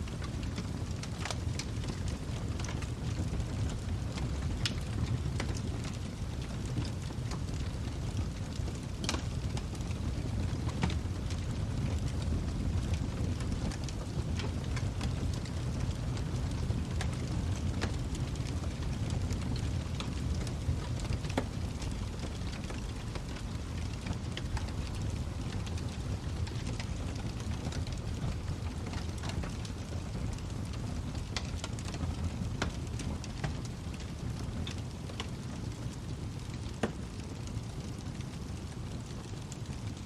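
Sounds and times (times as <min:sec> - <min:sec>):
fire popping and snapping: 0:00.0 - 0:40.0
low rumble of flames: 0:00.0 - 0:40.0.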